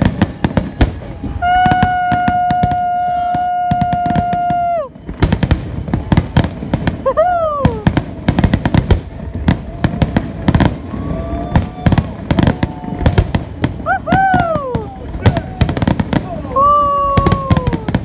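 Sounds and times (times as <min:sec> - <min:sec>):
cheering whoops: 0:00.0 - 0:05.0, 0:07.0 - 0:08.0, 0:09.4 - 0:18.0
fireworks bursting: 0:00.0 - 0:18.0.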